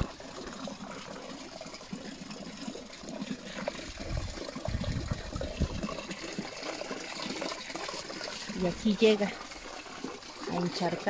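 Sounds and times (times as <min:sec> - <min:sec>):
spring water trickling: 0:00.0 - 0:11.0.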